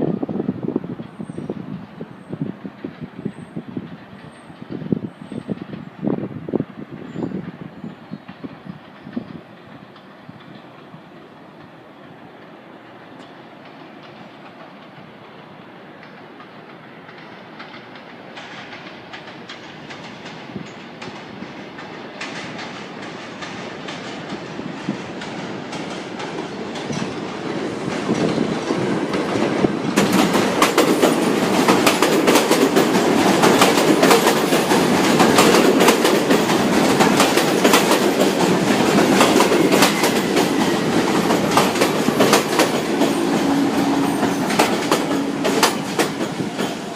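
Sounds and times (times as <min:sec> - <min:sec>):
subway train approaching: 0:00.0 - 0:46.9
train wheels clicking over rail joints: 0:07.0 - 0:46.9.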